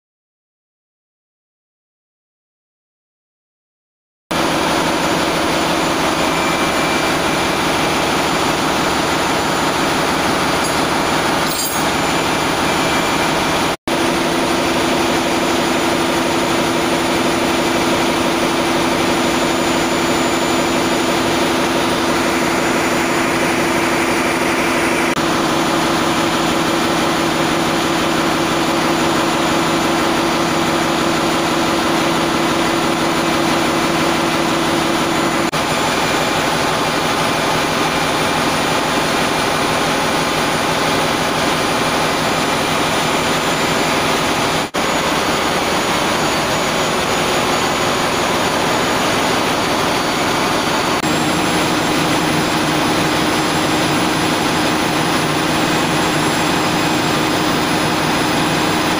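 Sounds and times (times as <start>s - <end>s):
engine room machinery hum: 4.3s - 58.9s.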